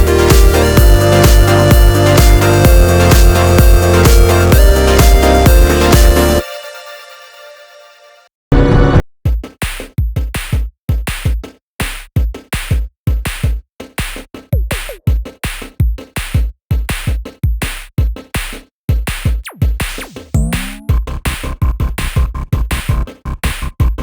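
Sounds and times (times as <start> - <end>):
electronic music with drum-machine beat: 0.0 - 7.8, 9.3 - 24.0.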